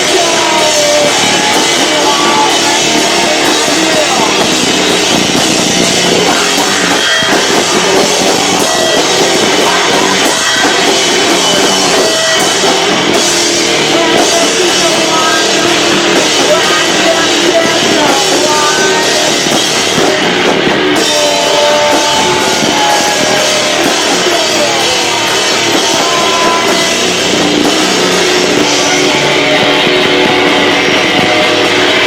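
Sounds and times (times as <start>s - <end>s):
distorted live rock band: 0.0s - 32.0s.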